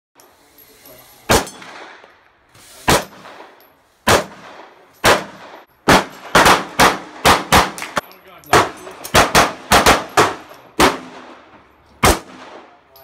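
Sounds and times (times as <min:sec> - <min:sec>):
pistol shots with echo: 0:01.3 - 0:02.1, 0:02.9 - 0:12.8.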